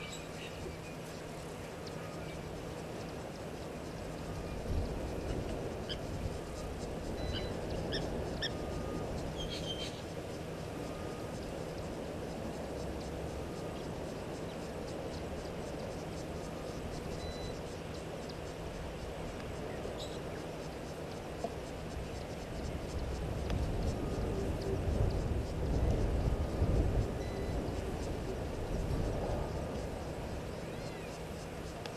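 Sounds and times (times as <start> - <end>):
fast insect ticking: 0.0 - 31.9
steady low hum: 0.0 - 31.9.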